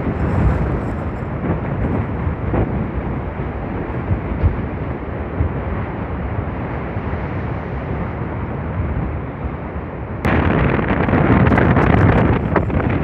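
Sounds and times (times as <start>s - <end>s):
strong wind buffeting: 0.0s - 13.0s.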